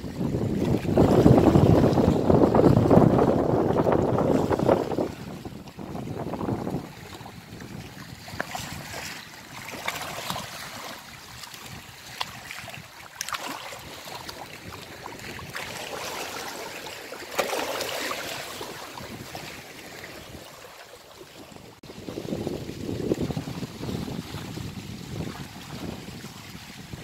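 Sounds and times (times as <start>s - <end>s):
small waves washing against rocks: 0.1s - 27.0s.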